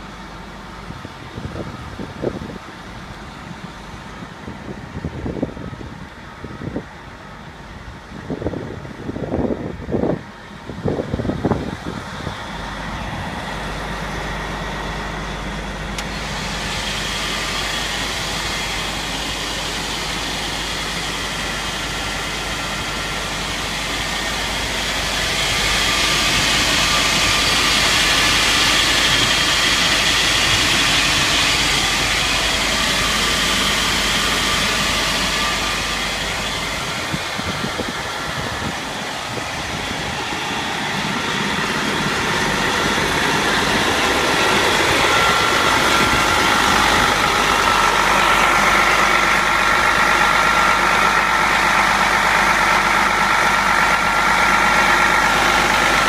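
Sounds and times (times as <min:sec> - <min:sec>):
air conditioning blower fan whirring: 0:00.0 - 0:56.0.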